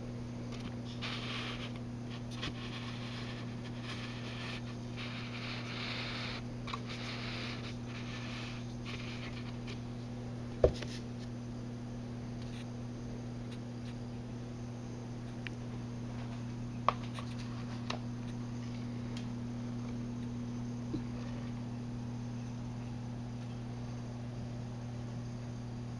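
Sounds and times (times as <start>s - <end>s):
low electrical hum: 0.0s - 25.9s.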